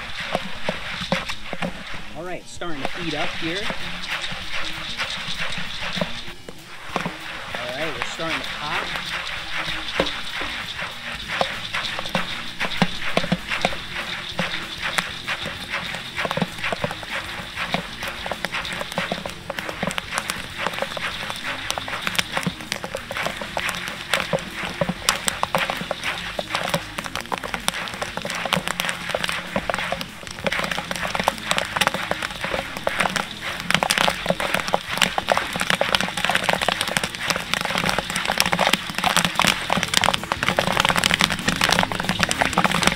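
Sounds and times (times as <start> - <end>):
popcorn popping in oil: 0.0 - 42.9
steady hiss of oil: 0.0 - 42.9.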